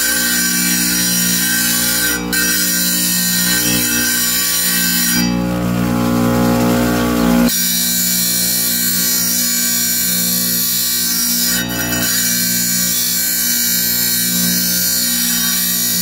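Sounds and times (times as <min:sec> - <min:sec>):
wet tile saw running: 0:00.0 - 0:16.0.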